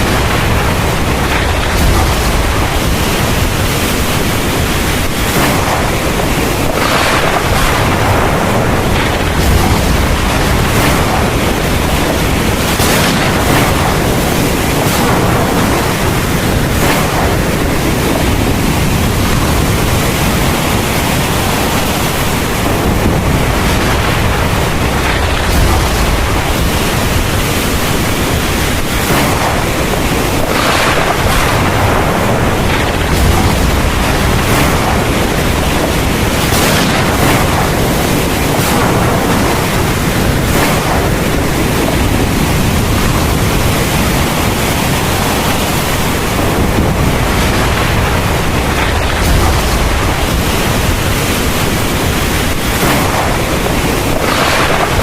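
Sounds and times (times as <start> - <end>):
heavy rain pouring: 0.0 - 55.0
low rumble of thunder: 0.0 - 55.0.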